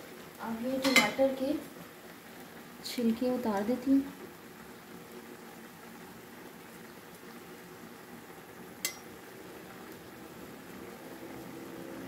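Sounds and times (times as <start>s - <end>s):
food bubbling in a frying pan: 0.0s - 12.0s.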